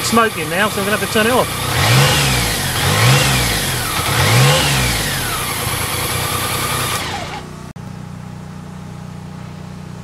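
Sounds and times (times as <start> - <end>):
motorcycle engine idling fast: 0.0 - 10.0.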